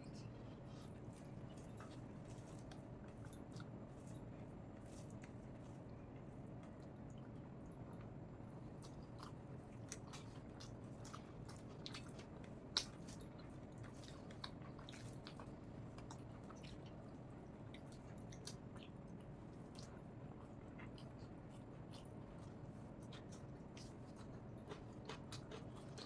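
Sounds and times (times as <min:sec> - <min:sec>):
close chewing with wet mouth clicks: 0:00.2 - 0:26.0.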